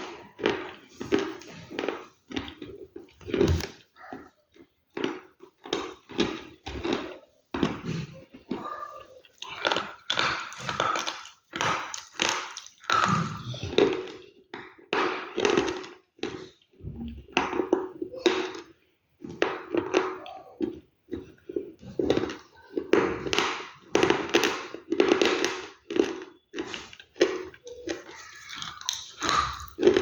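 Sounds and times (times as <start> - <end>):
chewing crunchy food: 0.0 - 30.0.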